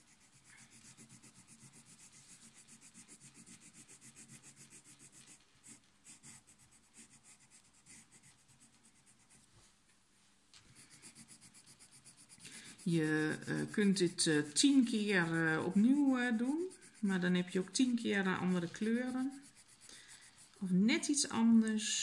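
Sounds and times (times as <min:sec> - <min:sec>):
pencil scratching on paper: 0:00.0 - 0:09.5, 0:10.7 - 0:21.7.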